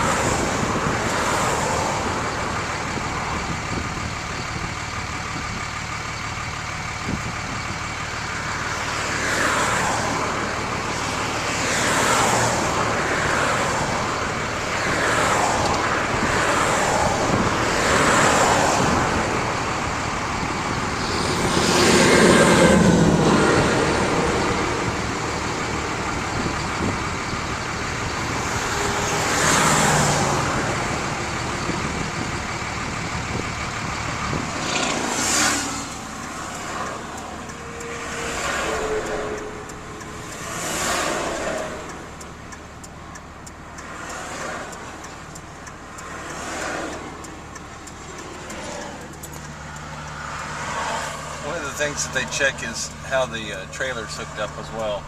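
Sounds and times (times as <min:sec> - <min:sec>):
road traffic passing: 0:00.0 - 0:55.0
heavy vehicle passing: 0:06.3 - 0:55.0.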